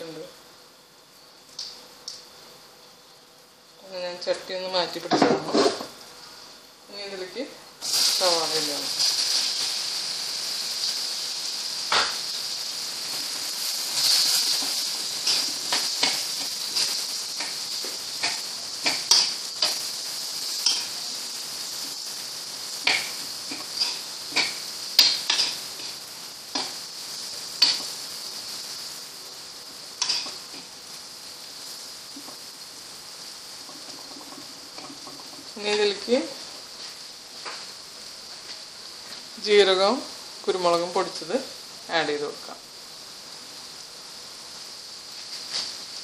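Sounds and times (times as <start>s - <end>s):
onions sizzling in oil: 0.0s - 46.0s.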